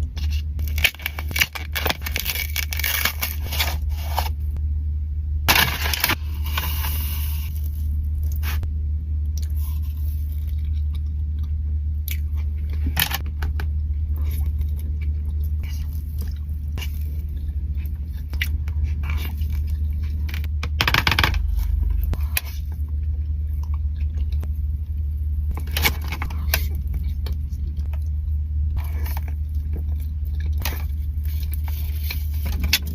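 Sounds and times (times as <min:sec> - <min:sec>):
chocolate crunching and chewing: 0:00.0 - 0:04.4, 0:05.5 - 0:32.9
steady low hum: 0:00.0 - 0:32.9.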